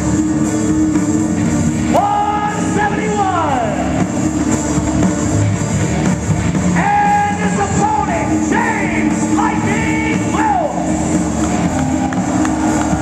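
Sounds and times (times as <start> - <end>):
loud backing music: 0.0 - 13.0.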